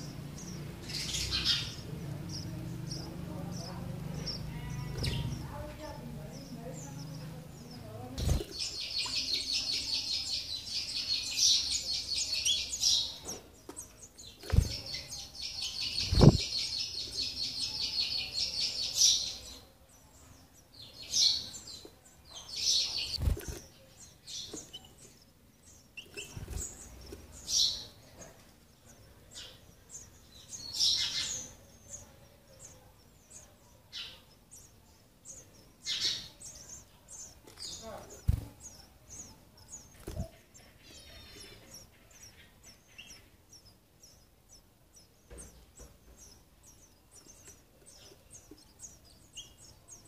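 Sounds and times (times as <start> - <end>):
nestlings chattering calls: 0.0 - 50.0.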